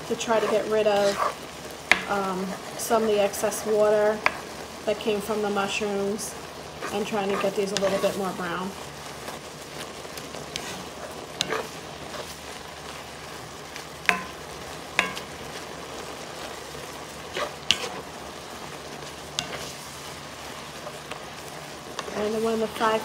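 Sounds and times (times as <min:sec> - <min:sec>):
mushrooms sizzling in a skillet: 0:00.0 - 0:23.0.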